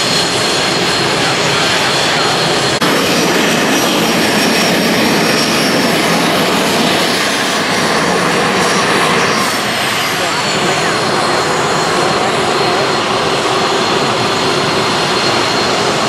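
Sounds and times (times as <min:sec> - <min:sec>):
jet engines running with whine: 0:00.0 - 0:16.0.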